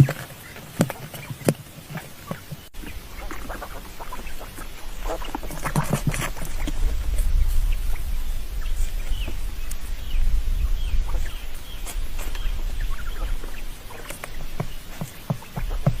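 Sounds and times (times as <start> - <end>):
birds chirping: 0.0 - 16.0
steady low rumble: 2.7 - 16.0.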